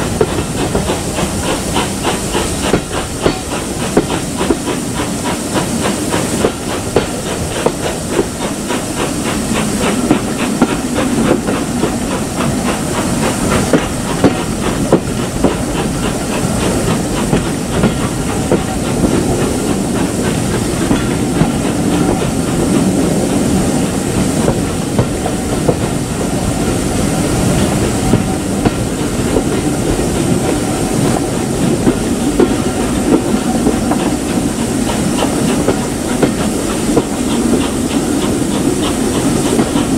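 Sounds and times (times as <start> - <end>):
hiss of steam: 0.0 - 39.9
train wheels clicking on rail joints: 0.0 - 39.9.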